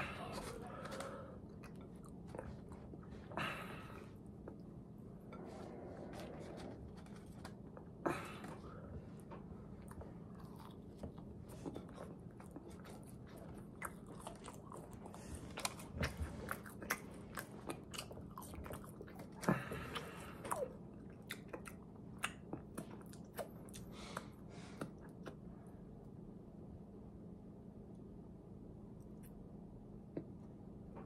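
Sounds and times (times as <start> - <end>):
chewing and crunching food: 0.0 - 26.1.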